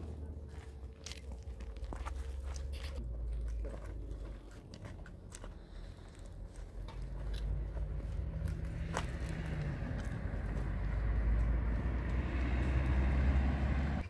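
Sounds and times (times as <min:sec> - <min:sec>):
footsteps crunching on gravel: 0:00.0 - 0:12.7
low rumble: 0:00.0 - 0:14.0.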